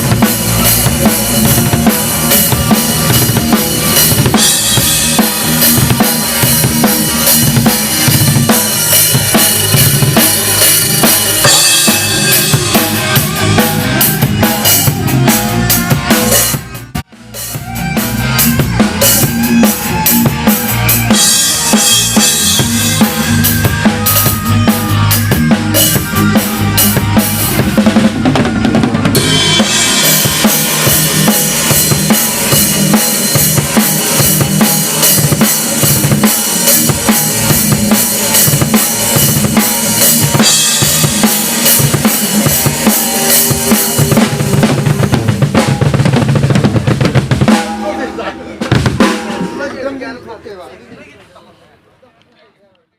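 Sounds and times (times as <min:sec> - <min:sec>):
loud music with drum beat: 0:00.0 - 0:50.1.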